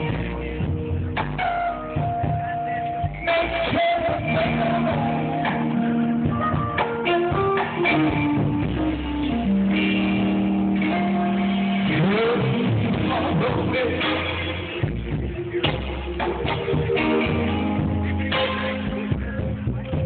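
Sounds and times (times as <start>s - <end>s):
electric guitar bending notes: 0.0s - 20.0s
live band playing: 0.0s - 20.0s.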